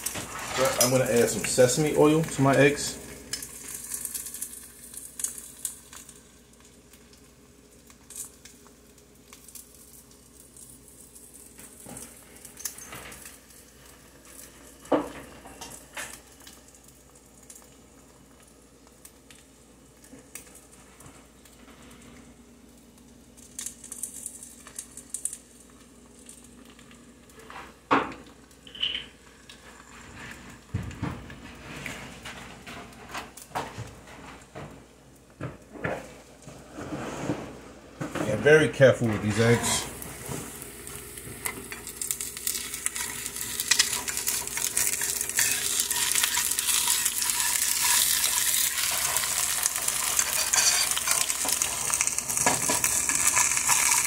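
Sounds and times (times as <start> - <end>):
eggs sizzling in a pan: 0.0 - 33.6, 37.7 - 54.0.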